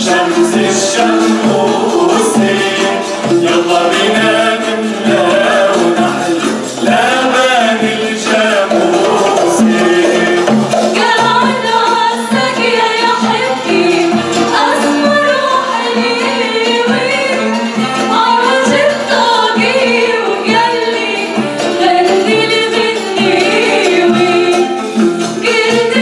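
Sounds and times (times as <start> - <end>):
classical guitar: 0.0 - 26.0
mixed choir singing: 0.0 - 26.0
violin: 0.0 - 26.0.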